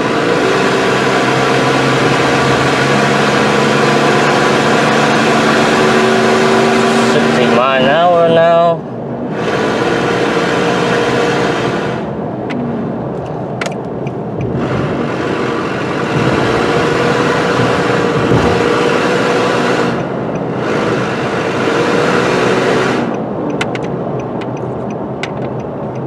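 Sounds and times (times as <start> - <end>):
engine and road noise in cab: 0.0 - 26.0.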